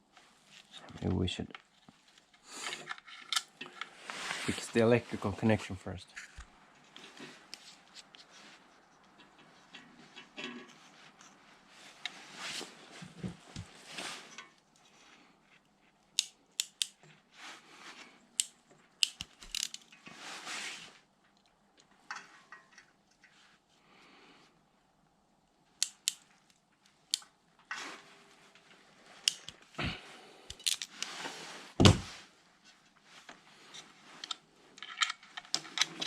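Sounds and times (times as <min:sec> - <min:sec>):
rustling and scraping handling: 0:00.0 - 0:16.2, 0:16.9 - 0:23.8, 0:25.9 - 0:36.0.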